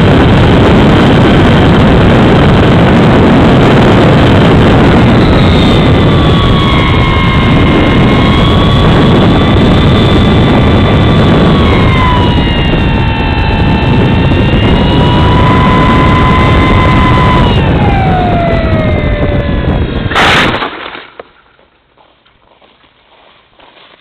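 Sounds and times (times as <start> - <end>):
wind rush on microphone: 0.0 - 21.0
electric motor and propeller whining: 0.0 - 23.8.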